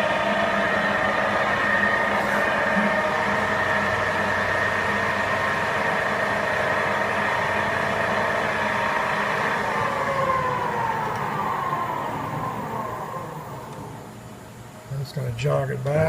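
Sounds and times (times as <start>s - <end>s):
lathe spindle whine: 0.0s - 14.9s.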